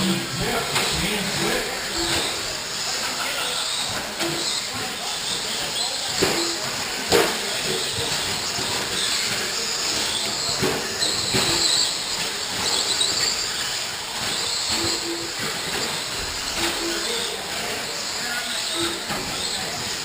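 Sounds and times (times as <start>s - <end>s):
rc truck motors whining: 0.0s - 20.0s
toy trucks knocking: 0.0s - 20.0s.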